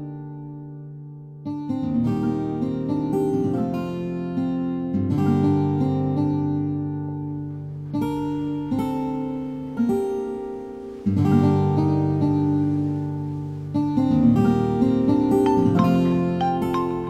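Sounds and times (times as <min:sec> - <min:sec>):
strummed acoustic guitar chords: 0:00.0 - 0:17.0.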